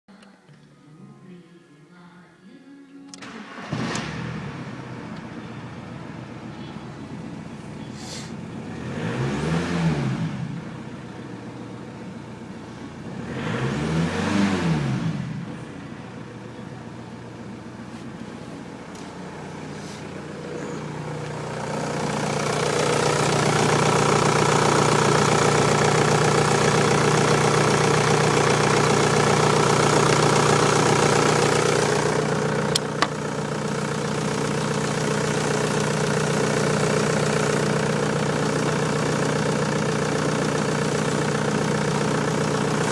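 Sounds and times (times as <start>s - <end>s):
diesel engine revving and idling: 3.2s - 42.9s.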